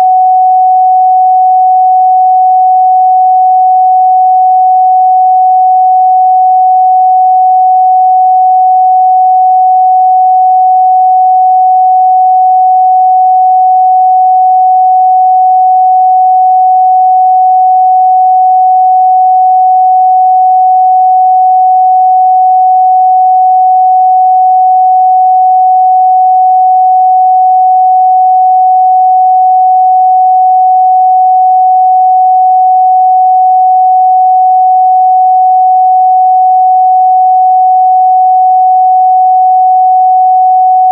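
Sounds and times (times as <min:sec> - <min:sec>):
sine wave test tone: 0:00.0 - 0:40.9.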